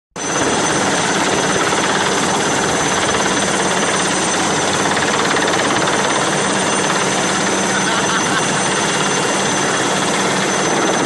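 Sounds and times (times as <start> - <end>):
helicopter rotor and engine: 0.2 - 11.0.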